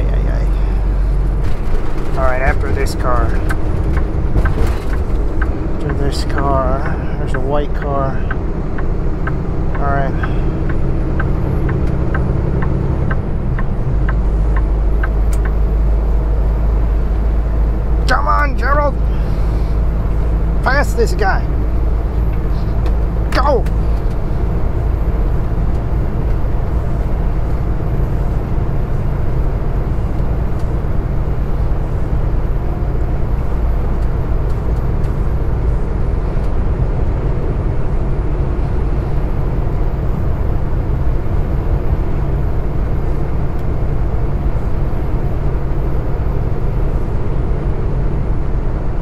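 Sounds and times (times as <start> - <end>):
truck engine and road drone: 0.0 - 49.0.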